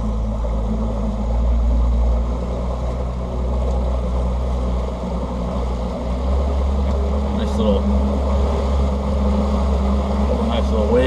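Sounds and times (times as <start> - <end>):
outboard motor humming: 0.0 - 11.0
water rushing along hull: 0.0 - 11.0.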